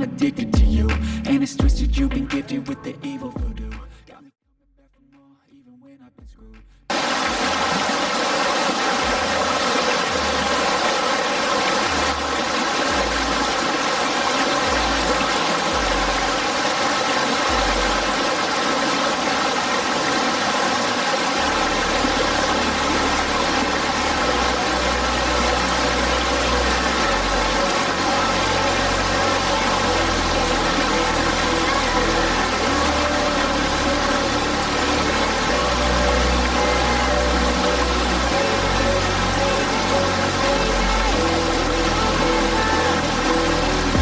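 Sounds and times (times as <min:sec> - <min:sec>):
waterfall roaring: 0:06.9 - 0:44.0.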